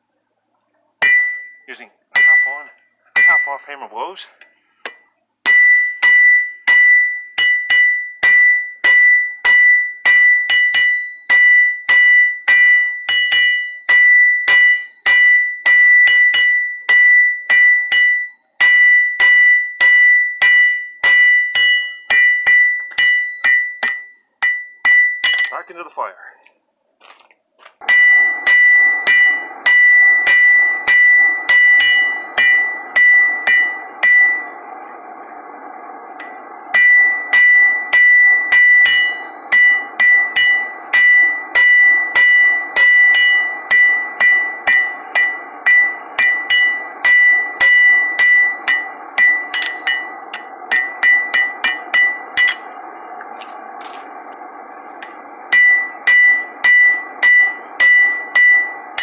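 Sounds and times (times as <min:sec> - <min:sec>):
hammer striking iron on anvil: 0:01.0 - 0:01.6, 0:02.2 - 0:03.7, 0:04.8 - 0:25.9, 0:27.8 - 0:34.9, 0:36.2 - 0:54.1, 0:55.0 - 0:59.0.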